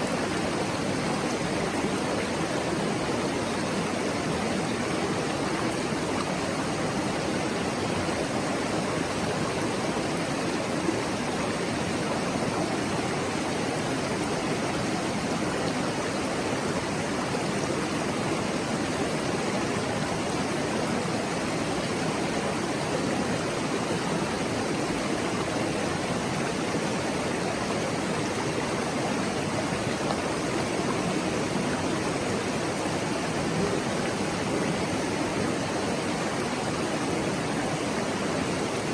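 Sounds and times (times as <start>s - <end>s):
mountain stream flowing: 0.0s - 38.9s.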